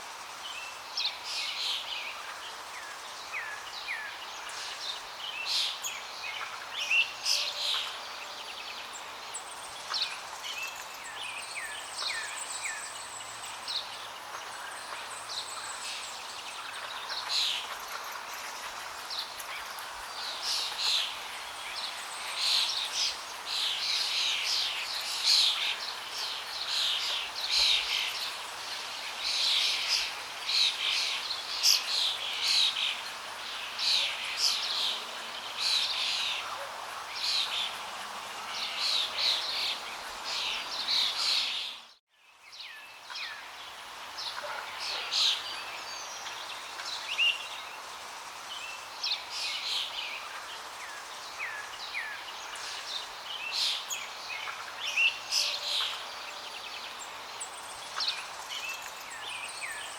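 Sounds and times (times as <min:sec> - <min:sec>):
songbirds chirping and singing: 0:00.4 - 0:59.9.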